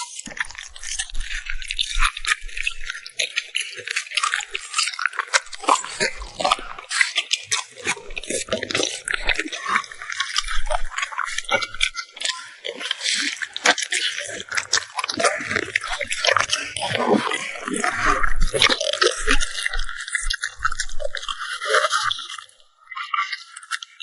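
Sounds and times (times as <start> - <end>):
dog chewing food: 0.1 - 23.9.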